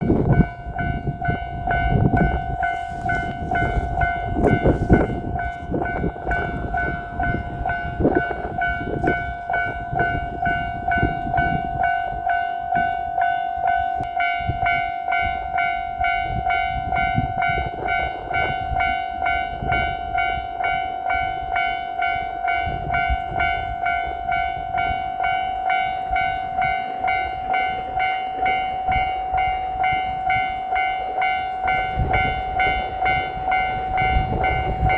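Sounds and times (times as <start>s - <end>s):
level crossing warning bell: 0.0s - 34.9s
train rumbling and wheel clatter: 0.0s - 34.9s.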